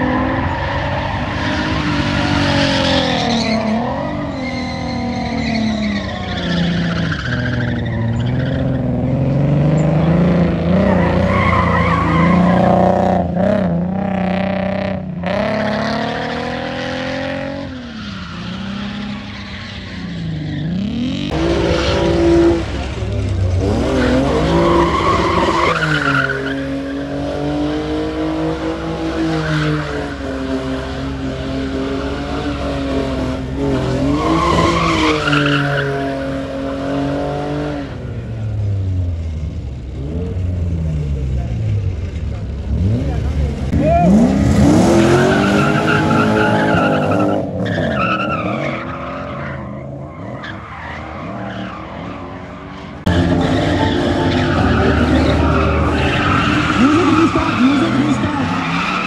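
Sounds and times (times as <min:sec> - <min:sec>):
tyres squealing on asphalt: 0:00.0 - 0:38.3, 0:42.0 - 0:59.0
car engines revving: 0:00.0 - 0:59.0.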